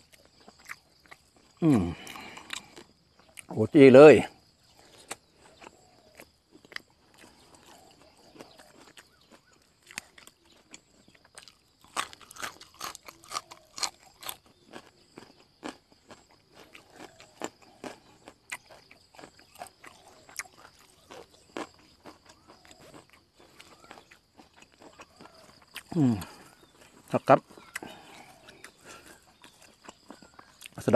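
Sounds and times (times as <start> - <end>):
chewing crunchy greens: 0.0 - 30.9.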